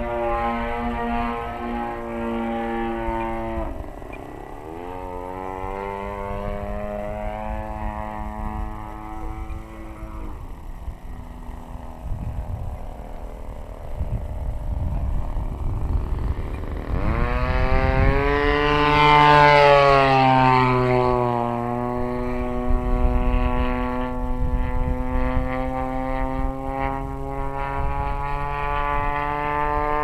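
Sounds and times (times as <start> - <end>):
model plane engine: 0.0 - 30.0.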